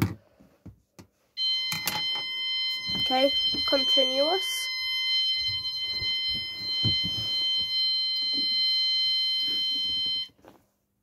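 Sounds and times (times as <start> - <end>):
fire alarm tone: 1.4 - 10.3.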